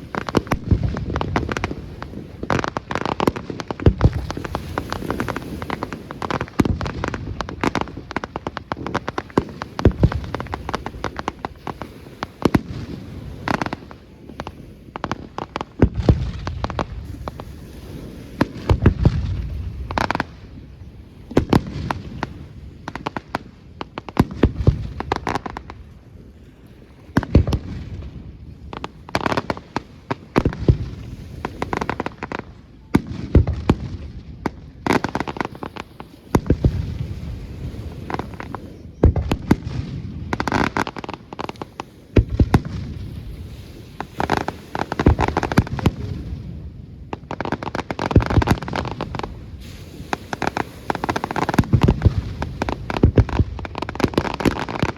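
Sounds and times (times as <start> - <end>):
fireworks crackling: 0.0 - 26.1, 27.0 - 54.9.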